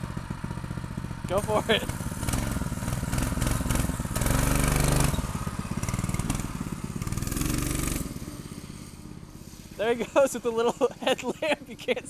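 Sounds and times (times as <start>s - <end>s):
minibike engine revving: 0.0s - 12.0s.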